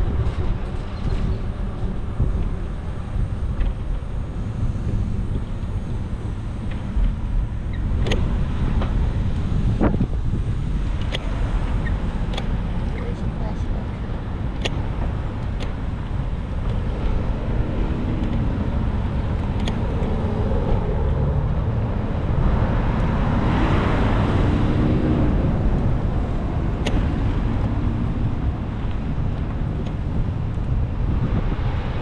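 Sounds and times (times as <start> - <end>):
passing motor vehicle engine: 0.0 - 32.0
wind rumble on microphone: 0.0 - 32.0.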